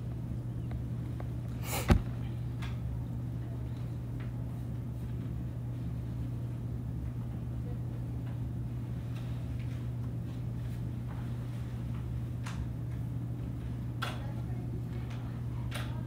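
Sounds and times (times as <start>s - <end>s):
room noise hum: 0.0s - 16.0s.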